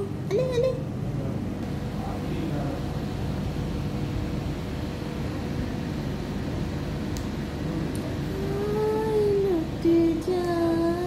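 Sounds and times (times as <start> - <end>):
mechanical hum and whir: 0.0 - 11.0.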